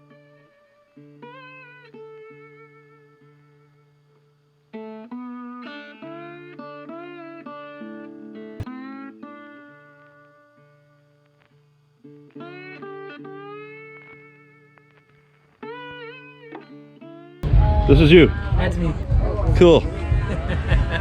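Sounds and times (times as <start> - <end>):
plucked guitar with sliding notes: 0.0 - 21.0.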